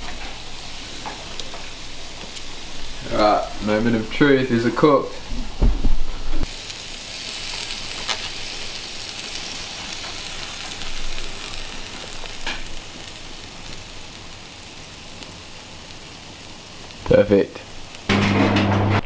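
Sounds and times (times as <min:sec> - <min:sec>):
chicken sizzling on a grill: 0:00.0 - 0:05.4, 0:06.4 - 0:18.3.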